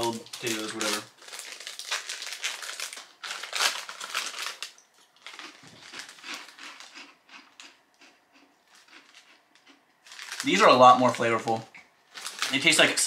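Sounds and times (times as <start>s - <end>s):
chip bag crinkling: 0.0s - 13.0s
chips crunching: 0.0s - 13.0s.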